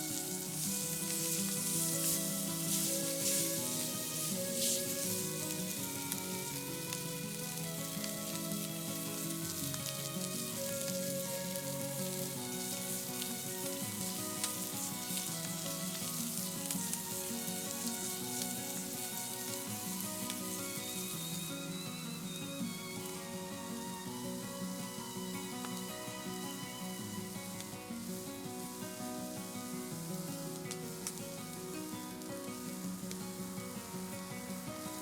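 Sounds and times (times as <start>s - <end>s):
meat sizzling in a frying pan: 0.0s - 28.4s, 29.0s - 35.0s
background music: 0.0s - 35.0s.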